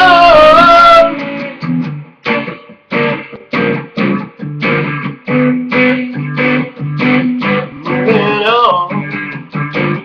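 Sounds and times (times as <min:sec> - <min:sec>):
guitar strumming chords: 0:00.0 - 0:10.0.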